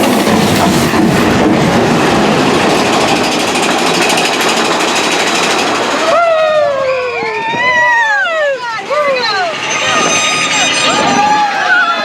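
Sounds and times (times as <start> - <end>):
roller coaster cars rumbling: 0.0 - 12.0.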